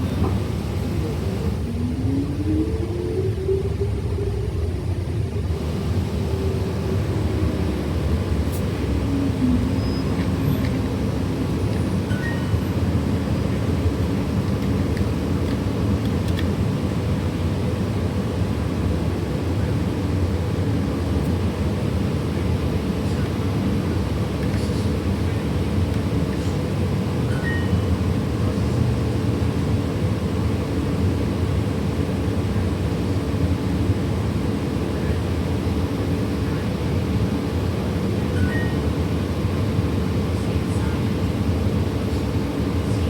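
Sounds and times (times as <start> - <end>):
bus engine drone: 0.0 - 43.0
road noise: 0.0 - 43.0.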